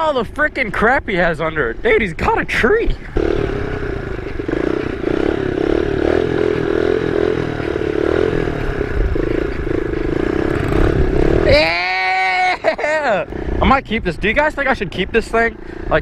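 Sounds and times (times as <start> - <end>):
small motorcycle engine idling: 0.2 - 16.0.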